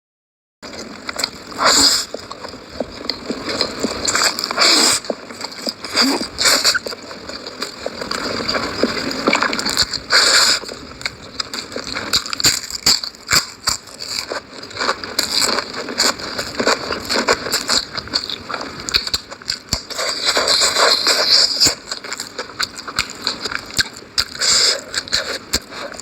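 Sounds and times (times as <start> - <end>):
chewing with wet mouth clicks: 0.7 - 26.0
noodle slurping: 0.7 - 26.0.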